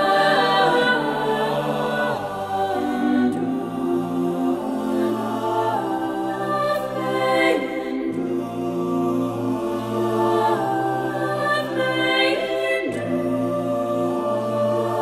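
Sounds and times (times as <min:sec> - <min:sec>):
mixed choir singing a cappella: 0:00.0 - 0:15.0.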